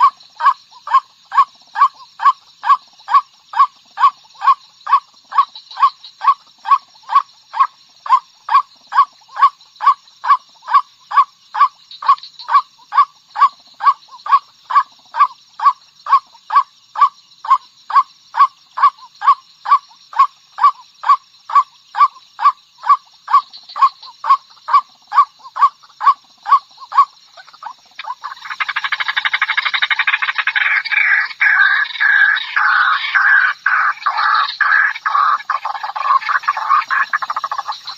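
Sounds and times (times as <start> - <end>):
harsh continuous bird calling: 0.0 - 37.9.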